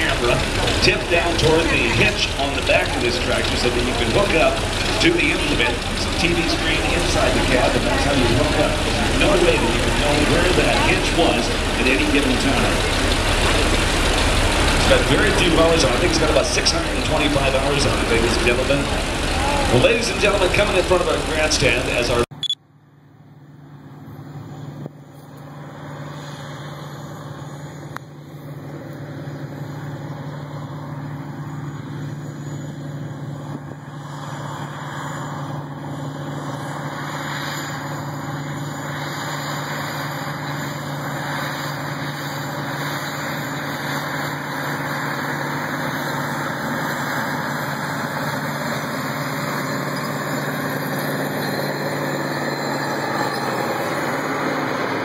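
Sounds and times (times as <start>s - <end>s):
tractor diesel engine running: 0.0s - 22.6s, 31.0s - 55.0s.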